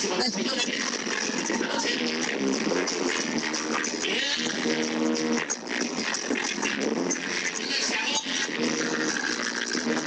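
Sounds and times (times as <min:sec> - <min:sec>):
dance music over sound system: 0:00.0 - 0:10.0.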